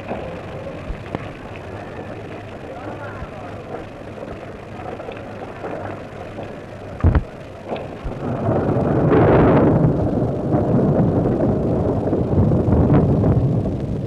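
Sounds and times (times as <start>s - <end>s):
lava flow rumbling and crackling: 0.0s - 14.0s.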